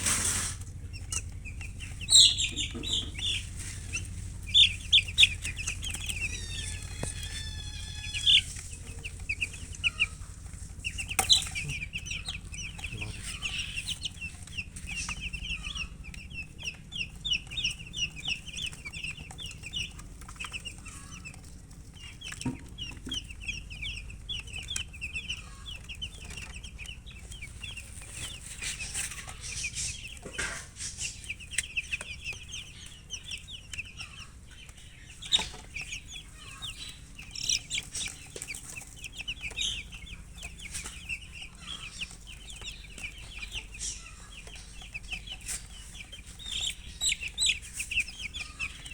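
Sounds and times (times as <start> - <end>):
chicks chirping: 0.0 - 48.9.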